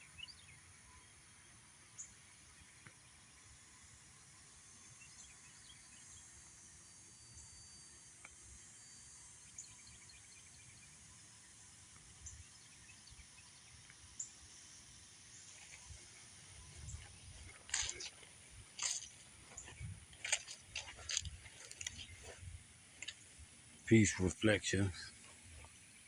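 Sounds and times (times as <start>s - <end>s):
insect hiss: 0.0s - 26.0s.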